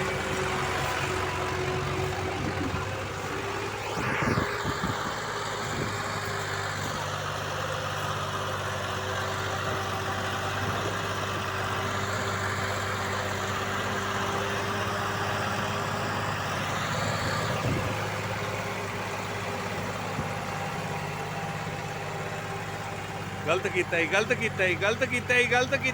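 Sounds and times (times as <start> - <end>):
diesel engine idling: 0.0 - 25.9.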